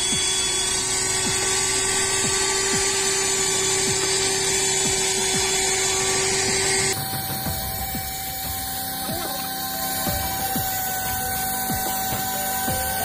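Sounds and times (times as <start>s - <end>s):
air hissing through nozzle: 0.0s - 13.0s
handheld vacuum motor whine: 0.0s - 13.0s.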